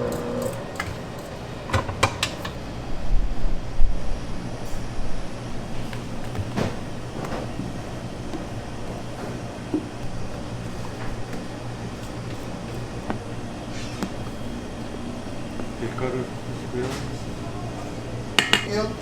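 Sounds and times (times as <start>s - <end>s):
kitchen machinery humming: 0.0s - 19.0s.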